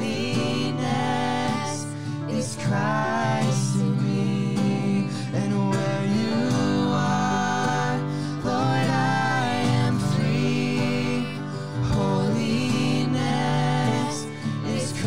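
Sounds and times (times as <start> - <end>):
men and women singing a worship song: 0.0 - 15.0
piano: 0.0 - 15.0
strummed acoustic guitar: 0.0 - 15.0.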